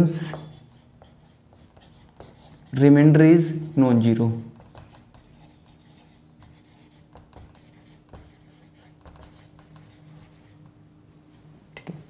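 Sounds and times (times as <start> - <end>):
steady low hum: 0.0 - 12.0
marker scratching on whiteboard: 0.2 - 10.6.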